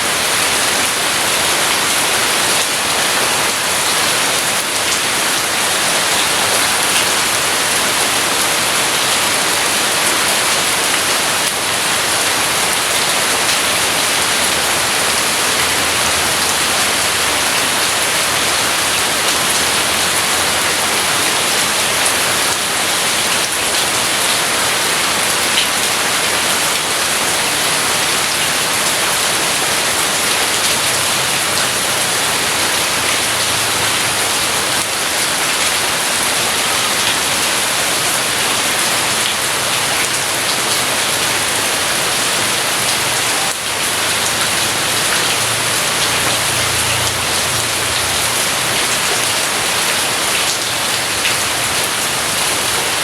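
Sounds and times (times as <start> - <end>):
heavy rain splashing: 0.0 - 53.0.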